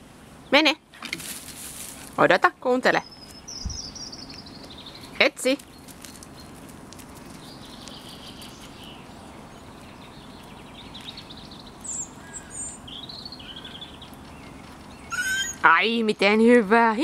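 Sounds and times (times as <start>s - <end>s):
low outdoor hum: 0.0s - 17.0s
small birds chirping and trilling: 2.6s - 16.9s.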